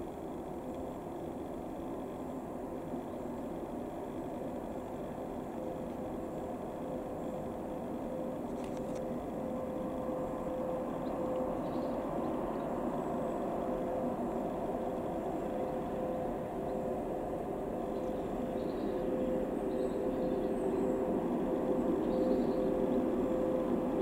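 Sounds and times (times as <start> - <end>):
electric locomotive running hum: 0.0 - 24.0.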